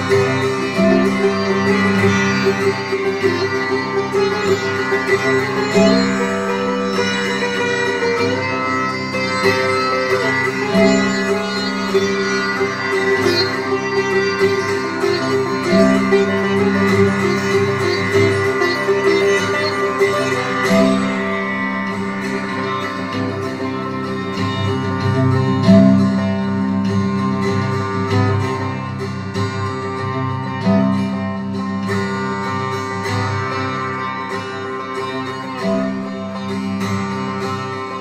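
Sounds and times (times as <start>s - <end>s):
bouzouki: 0.0s - 38.0s
cello: 0.0s - 38.0s
ringing drone of strings: 0.0s - 38.0s
sitar plucking: 0.0s - 38.0s.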